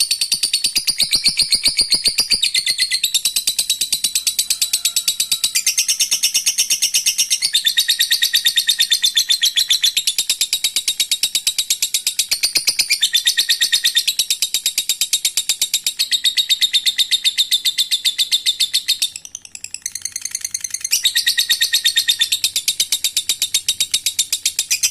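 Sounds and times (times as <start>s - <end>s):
lovebird chattering trill: 0.0s - 24.9s.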